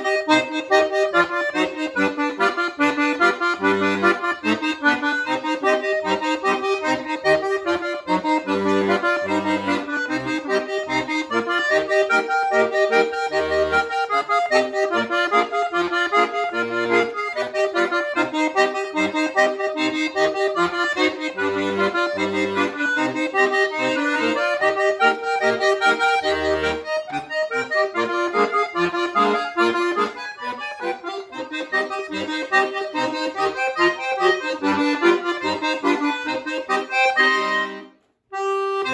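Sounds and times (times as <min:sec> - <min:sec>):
button accordion melody: 0:00.0 - 0:38.9.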